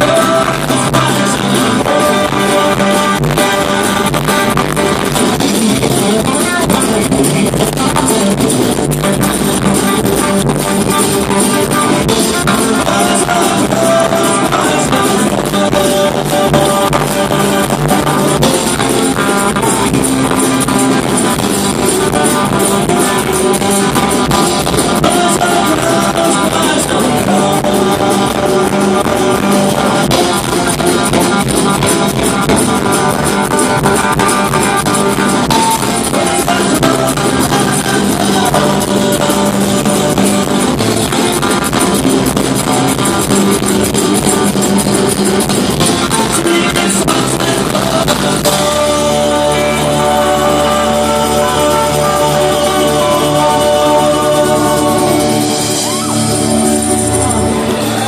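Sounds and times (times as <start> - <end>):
drum kit: 0.0 - 58.0
guitars: 0.0 - 58.0.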